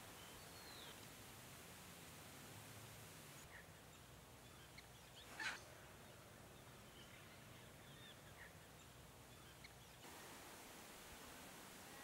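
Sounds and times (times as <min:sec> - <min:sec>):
quiet hiss: 0:00.0 - 0:12.0.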